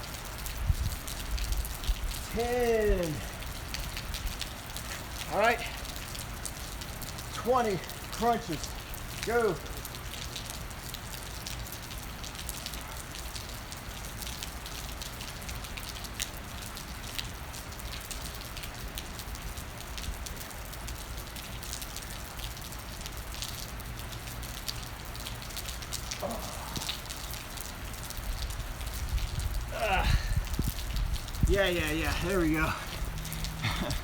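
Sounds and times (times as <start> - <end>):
raindrops ticking close: 0.0 - 34.0
steady rain falling: 0.0 - 34.0.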